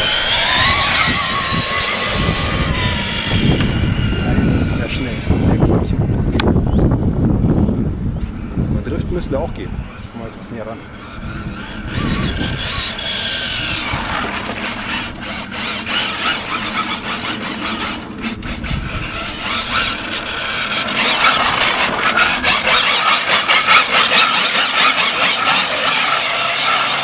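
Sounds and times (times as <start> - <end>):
electric motor whine: 0.0 - 8.4, 9.8 - 27.0.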